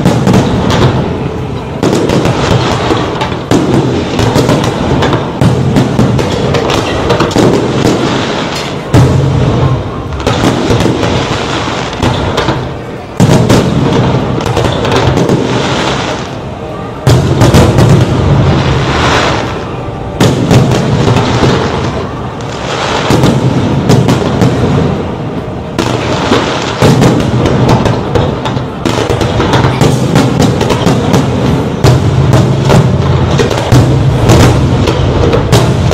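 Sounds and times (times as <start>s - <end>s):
firework booms: 0.0s - 35.9s
firework crackling: 0.0s - 35.9s.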